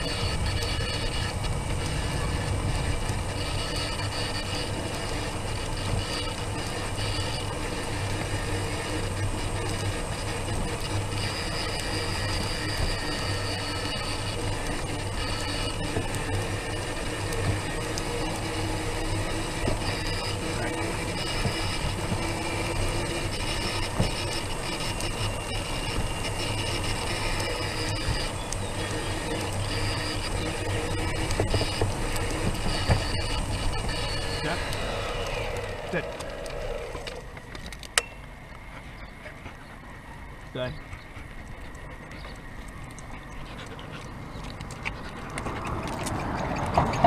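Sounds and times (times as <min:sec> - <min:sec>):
high whines: 0:00.0 - 0:47.0
vehicle running with low hum: 0:00.0 - 0:47.0.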